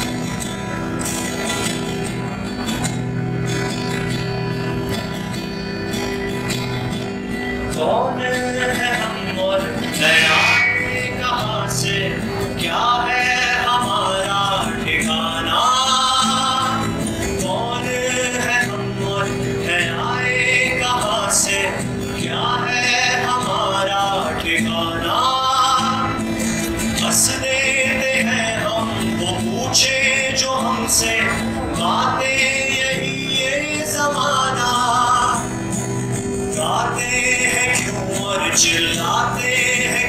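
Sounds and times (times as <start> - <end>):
acoustic guitar strumming: 0.0 - 40.0
man singing with vibrato: 7.0 - 40.0.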